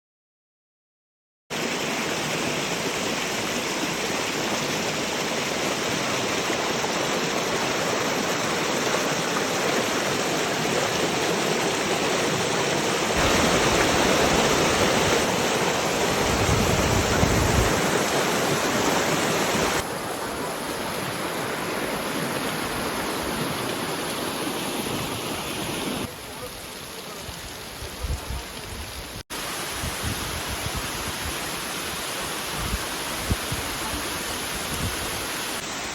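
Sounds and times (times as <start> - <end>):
waterfall rushing: 1.5 - 35.9.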